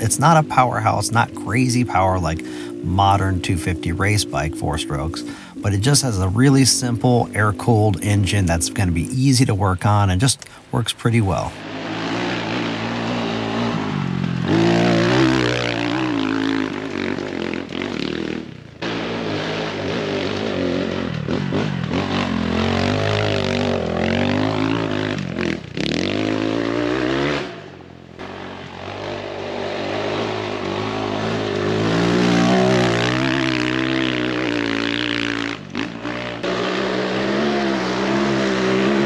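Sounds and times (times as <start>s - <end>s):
motorcycle engine revving: 0.0s - 10.6s, 11.3s - 39.0s.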